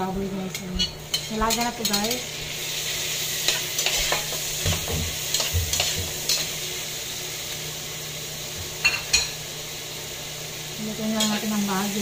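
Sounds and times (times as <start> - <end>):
frying hiss: 0.0 - 12.0.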